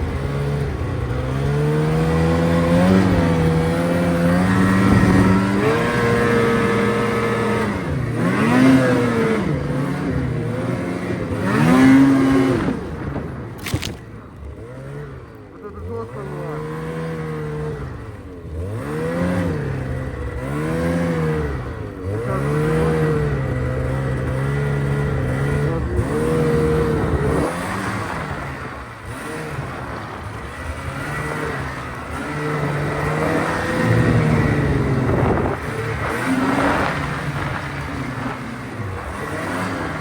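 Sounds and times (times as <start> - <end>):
vehicle engine revving: 0.0 - 40.0.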